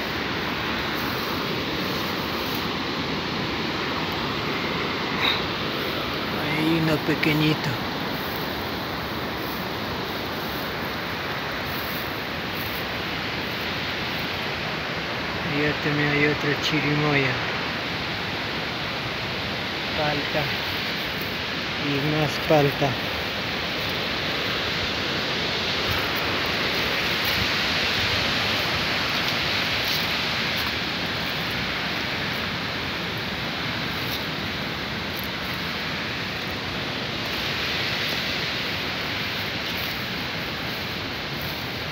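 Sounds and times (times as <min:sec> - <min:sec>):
steady rushing hiss: 0:00.0 - 0:41.9.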